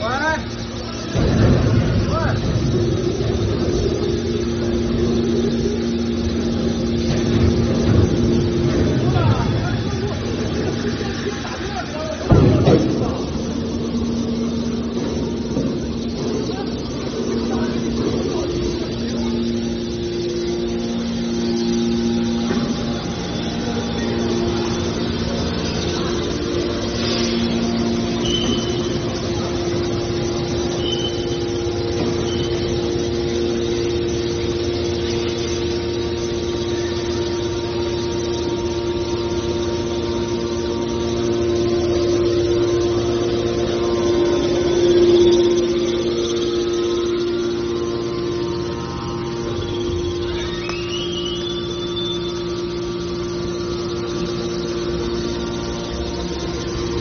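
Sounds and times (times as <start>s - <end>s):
hydraulic motor and pump hum: 0.0s - 57.0s.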